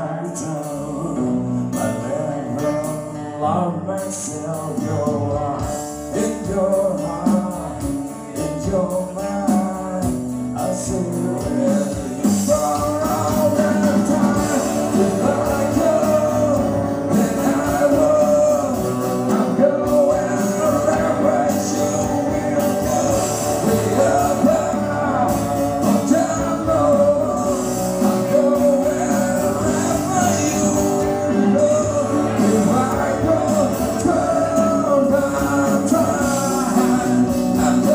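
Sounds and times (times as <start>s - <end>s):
acoustic and electric guitars: 0.0s - 37.9s
man singing: 0.0s - 37.9s.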